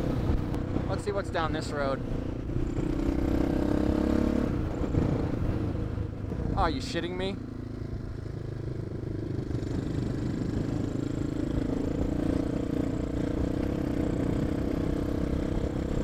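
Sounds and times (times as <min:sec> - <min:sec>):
low rumbling wind noise: 0:00.0 - 0:06.8, 0:07.4 - 0:16.0
motorcycle engine running: 0:02.0 - 0:16.0.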